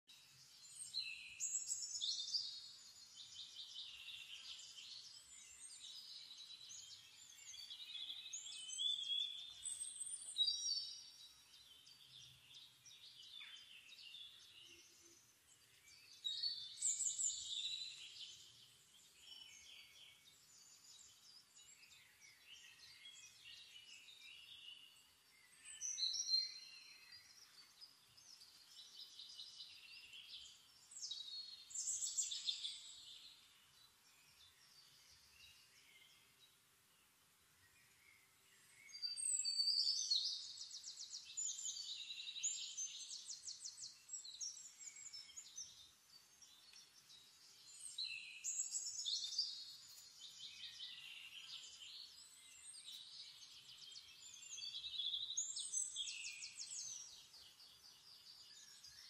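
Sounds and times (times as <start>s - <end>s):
faint outdoor background: 0.0s - 59.0s
songbirds singing: 0.0s - 59.0s.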